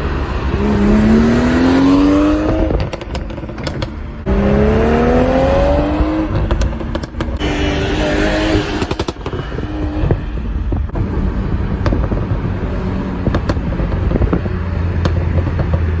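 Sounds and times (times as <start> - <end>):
exhaust popping and crackling: 0.0 - 16.0
low engine rumble: 0.0 - 16.0.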